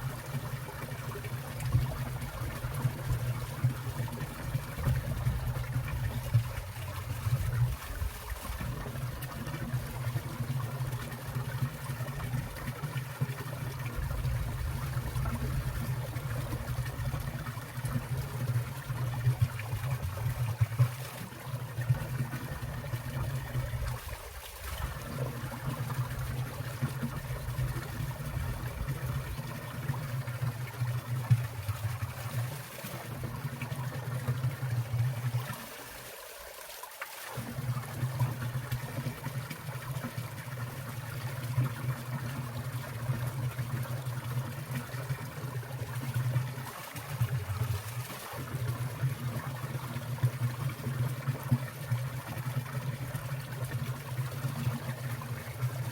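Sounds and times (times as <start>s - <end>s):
stream water trickling and splashing: 0.0s - 55.9s.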